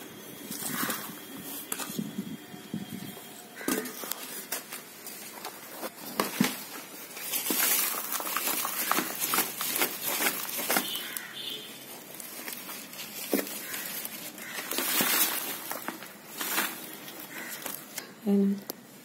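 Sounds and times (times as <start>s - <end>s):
soil rustling: 0.0s - 18.0s.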